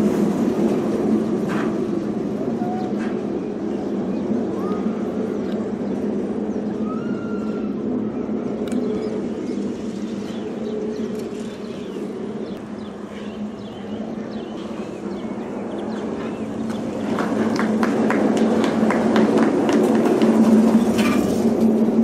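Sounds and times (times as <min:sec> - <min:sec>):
monorail pod rumbling on rail: 0:00.0 - 0:22.0
birds chirping: 0:01.0 - 0:21.4.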